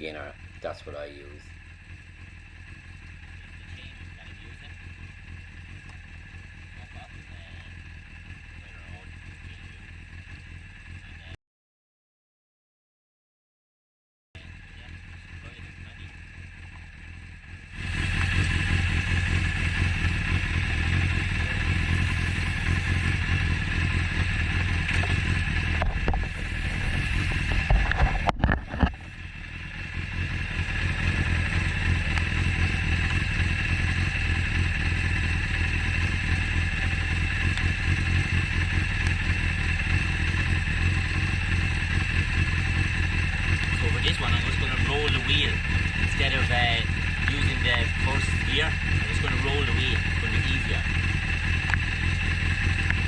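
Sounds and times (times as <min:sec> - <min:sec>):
motorcycle engine running: 0:00.0 - 0:11.4, 0:14.4 - 0:53.0.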